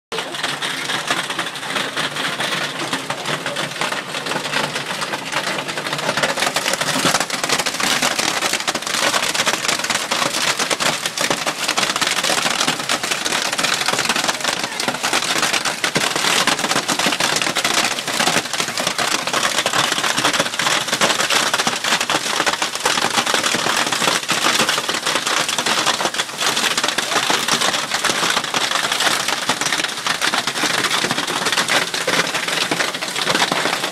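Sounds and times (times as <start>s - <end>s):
hail and heavy rain: 0.1s - 33.9s.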